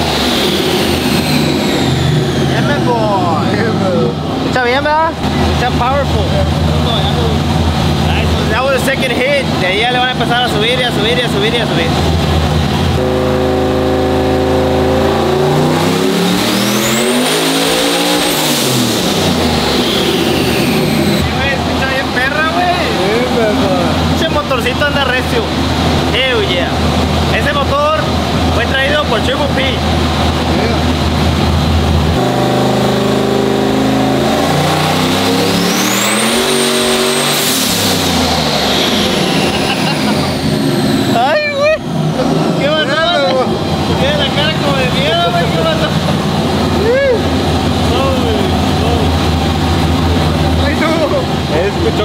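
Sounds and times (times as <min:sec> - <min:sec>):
truck engine revving: 0:00.0 - 0:52.0.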